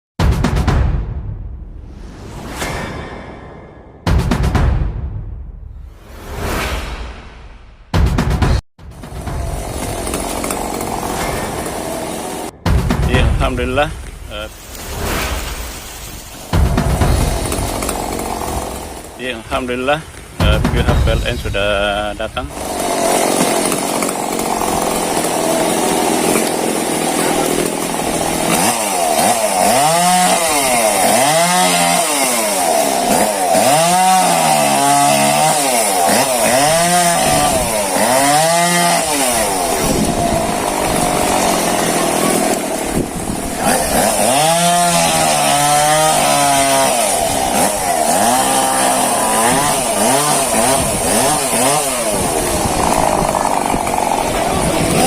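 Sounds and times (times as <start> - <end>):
chainsaw cutting wood: 8.8 - 55.0.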